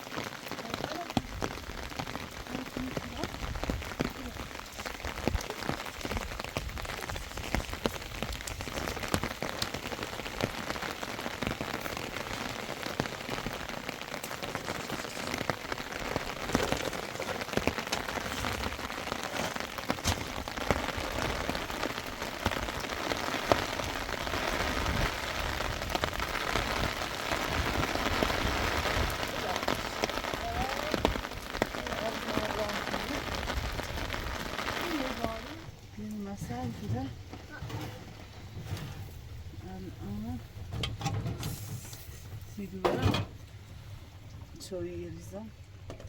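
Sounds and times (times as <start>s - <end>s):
rain drops ticking on hard surface: 0.0s - 46.0s.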